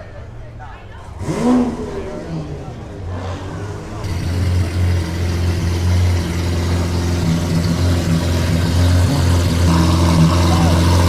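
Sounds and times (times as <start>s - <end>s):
car engine idling: 1.0s - 11.0s.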